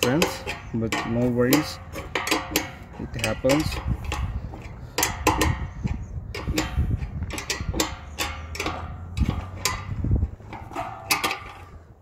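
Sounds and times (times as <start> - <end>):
metallic clicks and knocks: 0.0 - 12.0.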